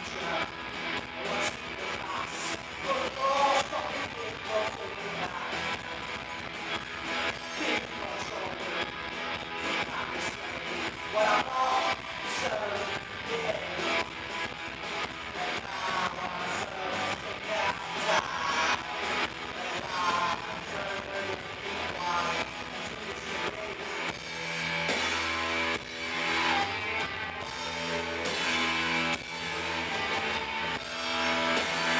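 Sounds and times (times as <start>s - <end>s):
electric guitars strumming: 0.0s - 31.9s.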